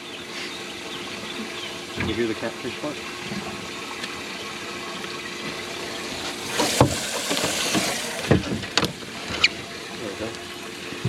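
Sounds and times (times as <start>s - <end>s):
water running and splashing: 1.4s - 11.0s.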